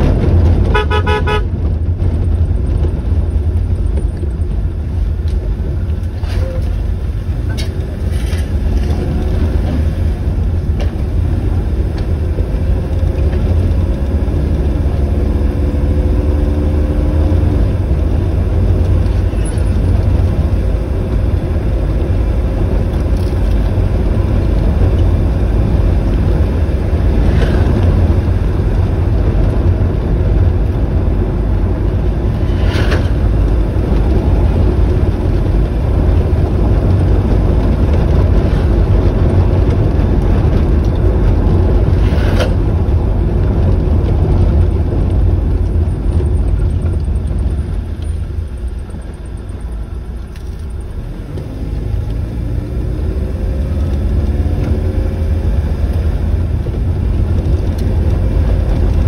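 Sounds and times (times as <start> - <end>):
road and wind rumble: 0.0 - 59.0.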